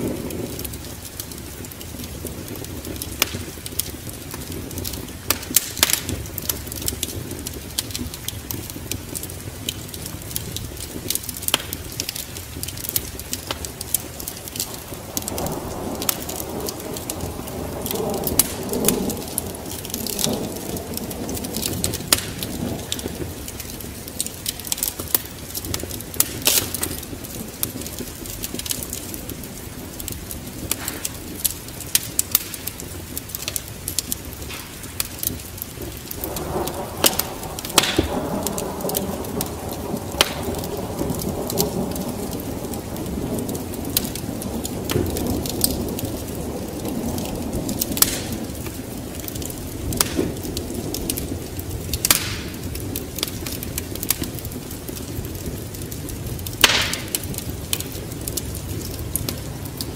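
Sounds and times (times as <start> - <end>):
low rumble of thunder: 0.0 - 59.9
rain hissing: 0.0 - 59.9
wood fire crackling and popping: 0.0 - 59.9.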